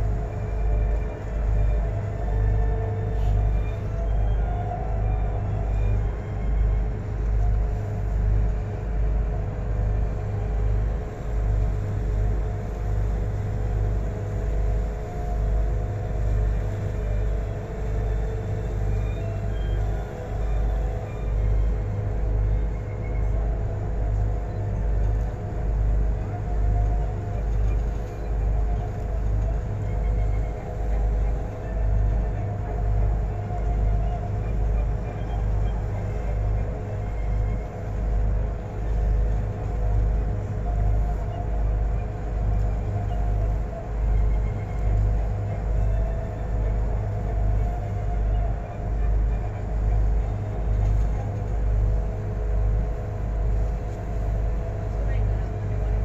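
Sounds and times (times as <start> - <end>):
boat engine droning: 0.0 - 56.0
heavy low rumble: 0.0 - 56.0
machinery hum: 0.0 - 56.0.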